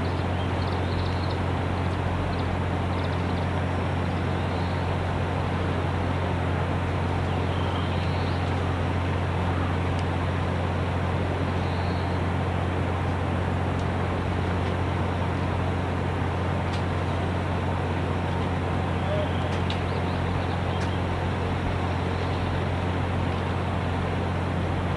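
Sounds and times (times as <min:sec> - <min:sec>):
outdoor rumble: 0:00.0 - 0:24.9.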